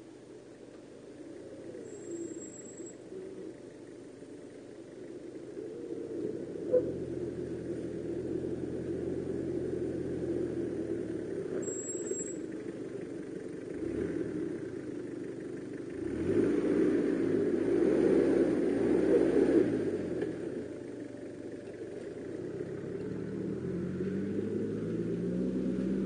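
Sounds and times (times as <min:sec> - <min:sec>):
off-road vehicle engine revving: 0:05.0 - 0:26.0.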